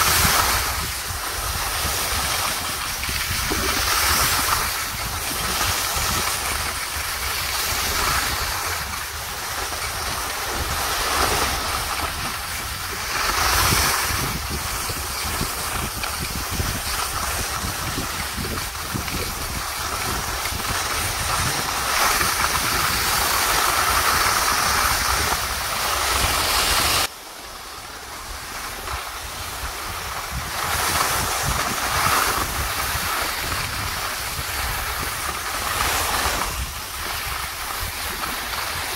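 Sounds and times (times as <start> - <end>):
skis scraping over snow: 0.0 - 38.9
wind on microphone: 0.0 - 38.9.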